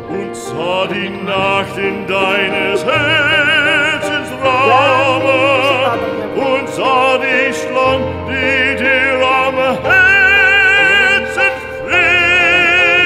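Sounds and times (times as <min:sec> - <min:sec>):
operatic singing: 0:00.0 - 0:13.0.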